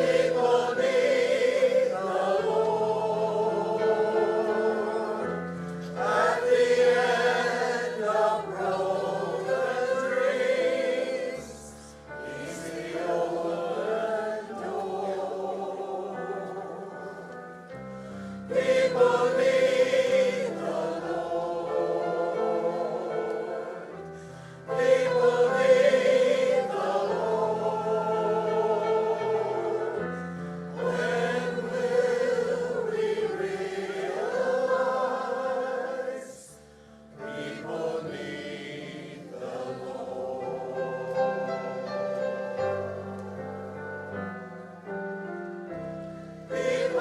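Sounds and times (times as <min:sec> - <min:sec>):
group singing a hymn: 0:00.0 - 0:47.0.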